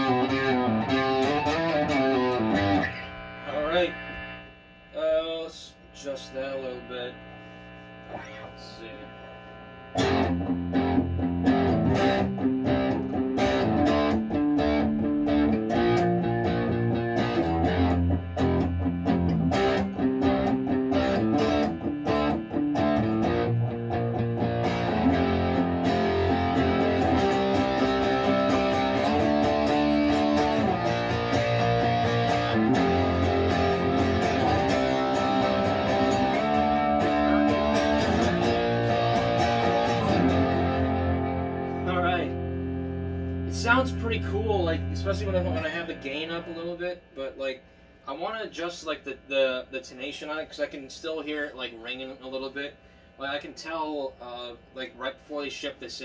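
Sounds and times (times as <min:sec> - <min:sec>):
electric guitar through amp: 0:00.0 - 0:48.6.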